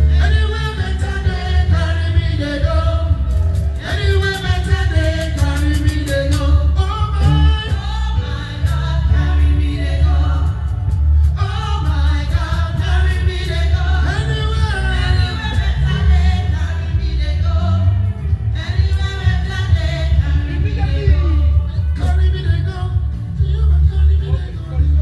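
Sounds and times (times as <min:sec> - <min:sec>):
gospel band playing: 0:00.0 - 0:25.0
heavy bass: 0:00.0 - 0:25.0
singers: 0:00.0 - 0:25.0.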